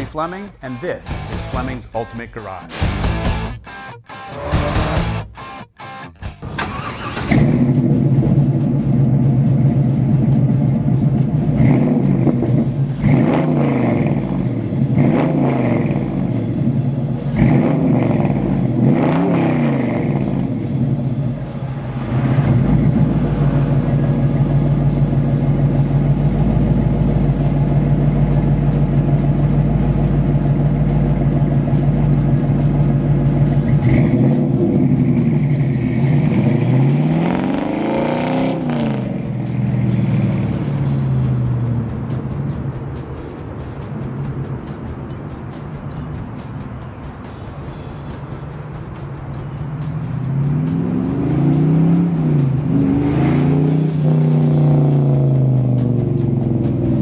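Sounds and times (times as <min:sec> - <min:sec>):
car accelerating away: 0:04.2 - 0:05.2, 0:06.4 - 0:45.8, 0:49.0 - 0:57.0
car engine revving and idling: 0:04.4 - 0:05.3, 0:06.4 - 0:57.0.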